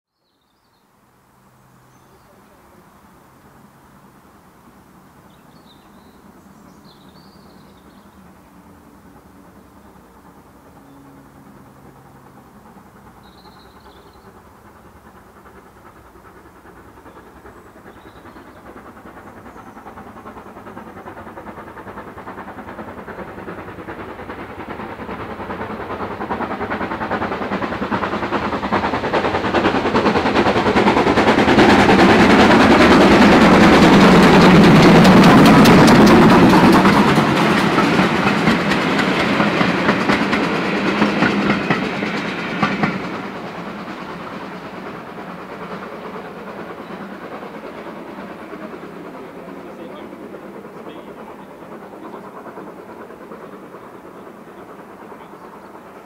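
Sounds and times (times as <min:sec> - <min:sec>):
steam locomotive exhaust beats: 0:00.9 - 0:56.0.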